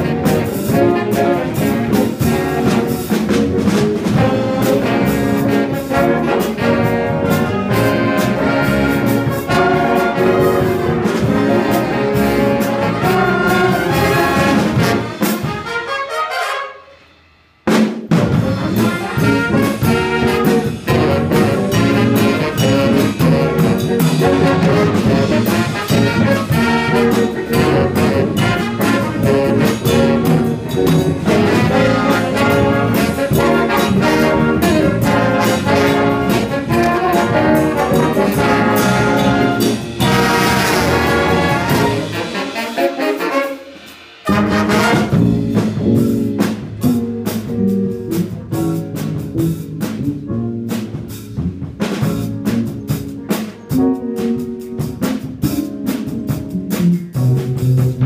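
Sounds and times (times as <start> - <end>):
jazz big band playing: 0.0 - 58.0.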